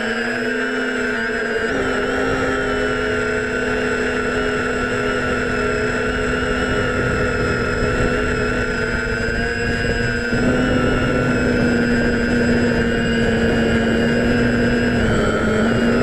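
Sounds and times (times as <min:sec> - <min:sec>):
drone motors whining: 0:00.0 - 0:16.0
wind buffeting microphone: 0:01.5 - 0:16.0.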